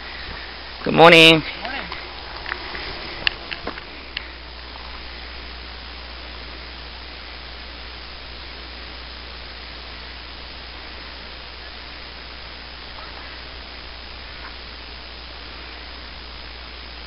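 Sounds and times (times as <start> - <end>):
low hum: 0.0 - 17.0
steady hiss: 0.0 - 17.0.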